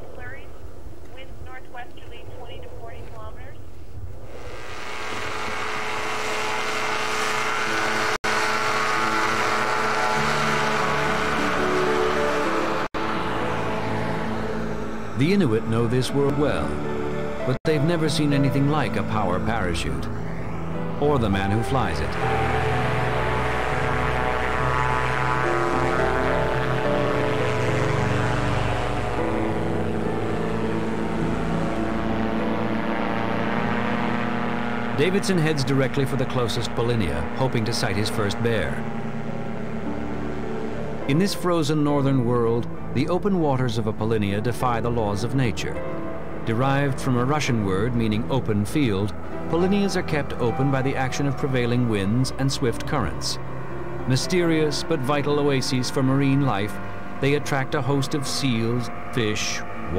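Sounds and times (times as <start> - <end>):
engine and propeller droning: 0.0 - 59.9.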